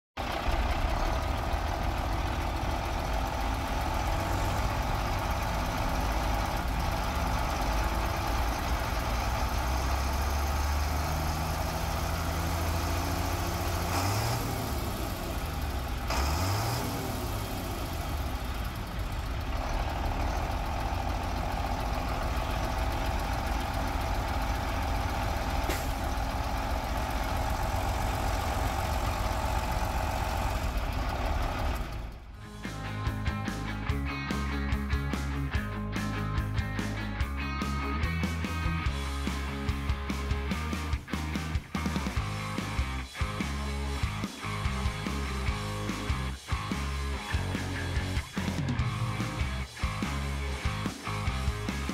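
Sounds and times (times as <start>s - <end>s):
diesel engine idling: 0.1s - 51.9s.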